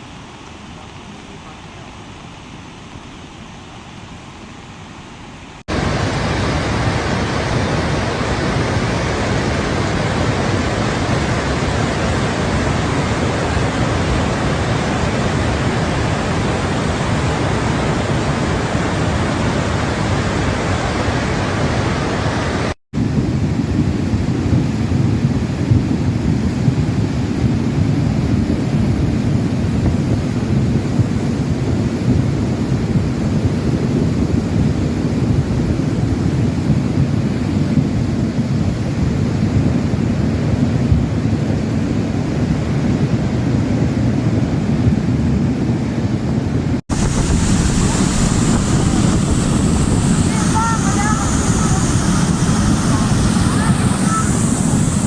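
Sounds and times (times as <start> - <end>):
rushing floodwater: 0.0 - 55.0.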